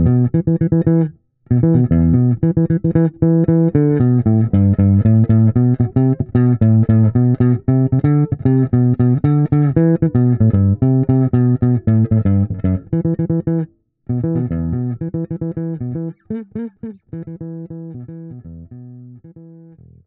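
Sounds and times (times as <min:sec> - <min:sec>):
electric bass guitar: 0:00.0 - 0:20.0.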